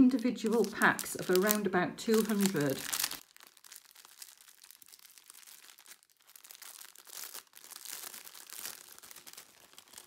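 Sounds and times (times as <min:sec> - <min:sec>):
thin plastic bags crinkling: 0:00.0 - 0:10.0.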